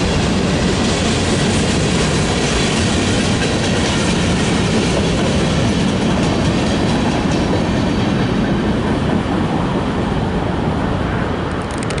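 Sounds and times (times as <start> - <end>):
freight train wheels rumbling on track: 0.0 - 12.0.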